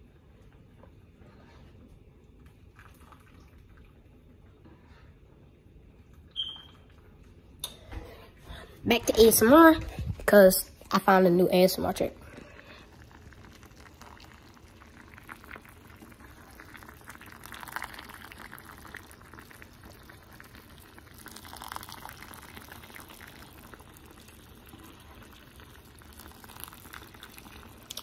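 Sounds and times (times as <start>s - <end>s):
pot boiling and bubbling: 0.0s - 28.0s.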